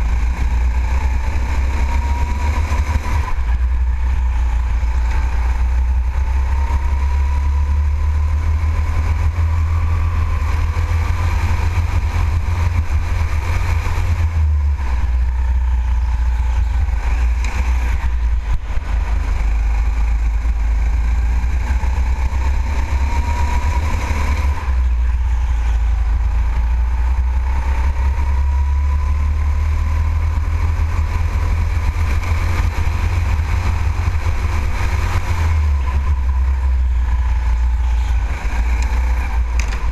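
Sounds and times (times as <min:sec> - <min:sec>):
engine whine: 0:00.0 - 0:39.9
go-kart engine rumble: 0:00.0 - 0:39.9.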